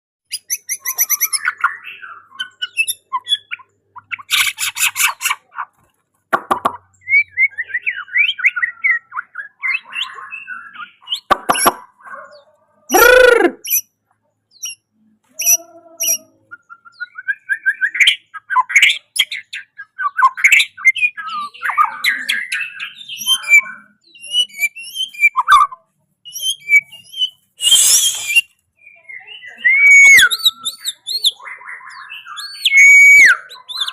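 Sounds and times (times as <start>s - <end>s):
songbird singing: 0.2s - 33.9s.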